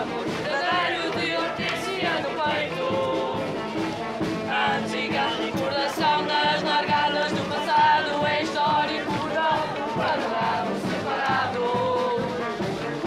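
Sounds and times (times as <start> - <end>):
band accompaniment: 0.0 - 13.0
marchers singing in chorus: 0.0 - 13.0.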